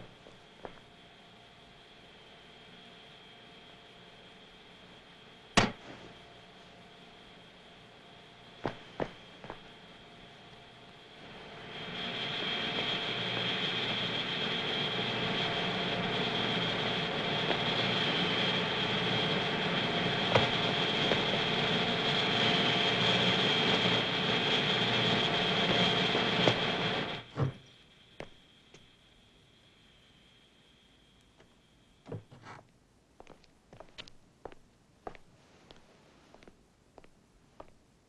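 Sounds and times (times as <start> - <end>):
machine drone with high whine: 0.0 - 32.3.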